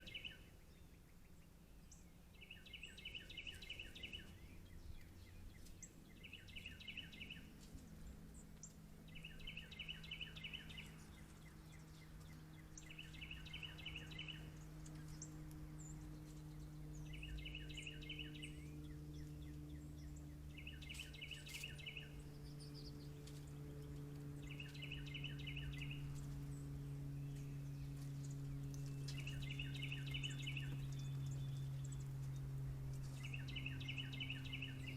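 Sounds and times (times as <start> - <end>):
songbird trilling: 0.0 - 7.5, 8.6 - 34.9
low steady hum: 0.0 - 34.9.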